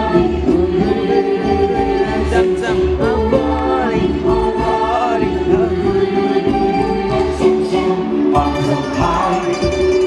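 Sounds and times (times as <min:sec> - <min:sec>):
dance music with singing: 0:00.0 - 0:10.0.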